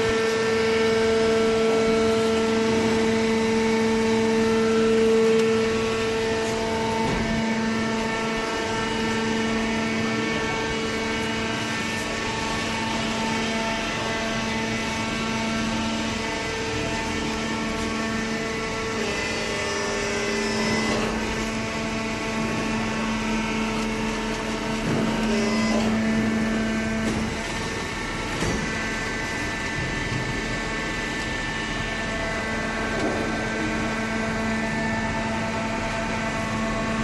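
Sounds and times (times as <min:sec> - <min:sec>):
hydraulic pump and motor humming: 0:00.0 - 0:37.0.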